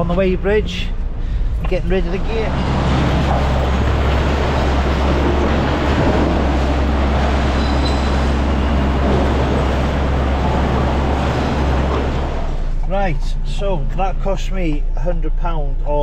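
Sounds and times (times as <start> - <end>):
diesel machinery humming: 0.0 - 16.0.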